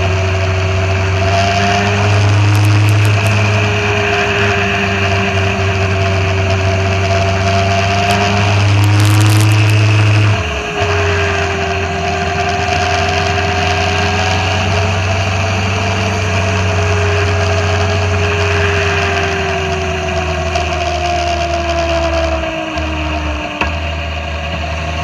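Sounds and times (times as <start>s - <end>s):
motorcycle engine cruising: 0.0s - 25.0s
road noise rushing: 0.0s - 25.0s.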